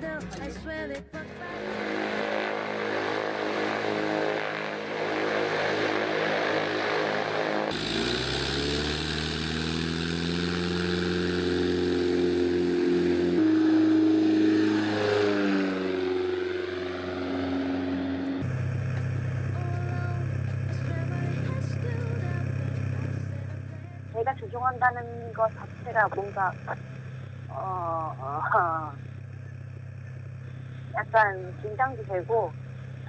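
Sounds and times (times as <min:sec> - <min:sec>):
propeller engine running: 0:00.0 - 0:33.0
aircraft passing overhead: 0:01.2 - 0:33.0.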